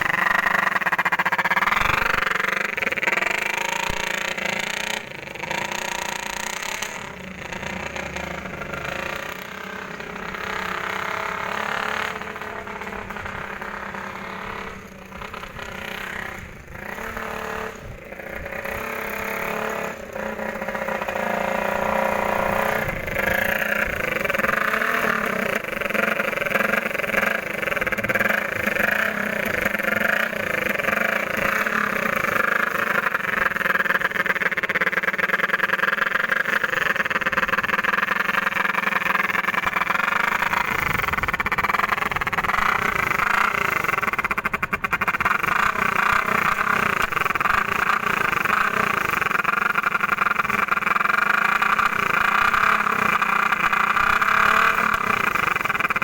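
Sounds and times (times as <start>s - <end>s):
motorcycle engine buzzing: 0.0s - 56.0s.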